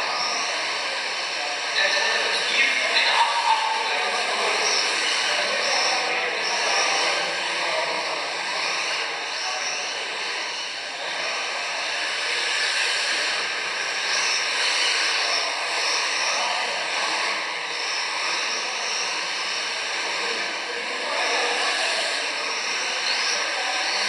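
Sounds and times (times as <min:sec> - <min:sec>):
high-pitched electric motor whine: 0:00.0 - 0:24.0.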